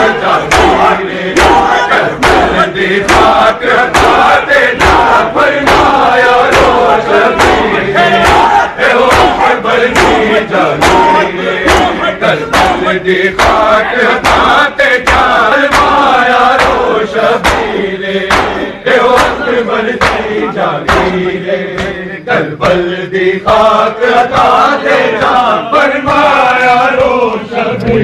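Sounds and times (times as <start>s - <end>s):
men chanting in unison: 0.0s - 28.0s
hands slapping bare chests: 0.3s - 22.0s, 23.5s - 27.4s.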